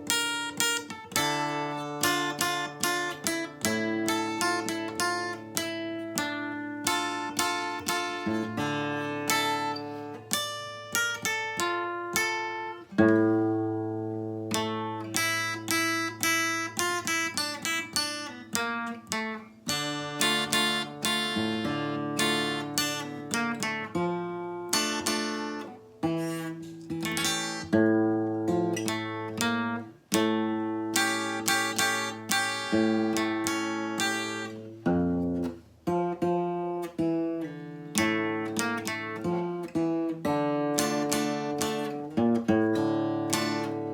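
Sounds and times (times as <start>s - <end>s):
guitar playing plucked melody: 0.0s - 43.9s.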